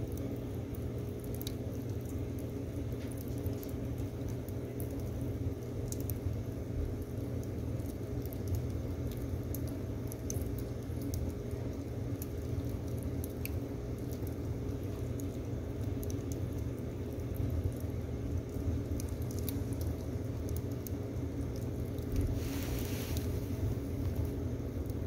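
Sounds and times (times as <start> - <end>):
low rumble of stove: 0.0 - 25.0
wood fire crackling: 0.0 - 25.0.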